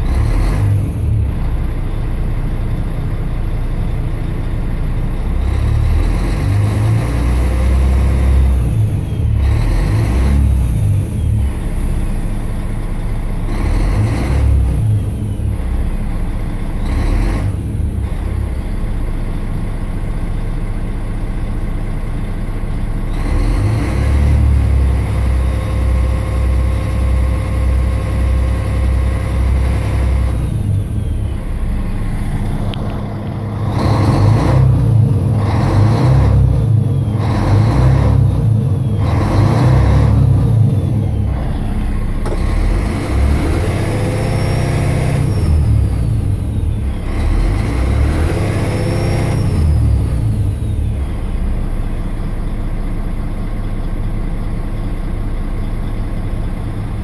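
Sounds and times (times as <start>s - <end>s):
diesel bus engine revving: 0.0s - 57.0s.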